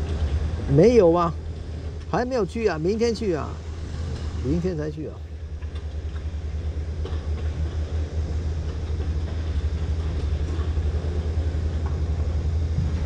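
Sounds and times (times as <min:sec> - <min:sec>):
fluttering low rumble: 0:00.0 - 0:13.0.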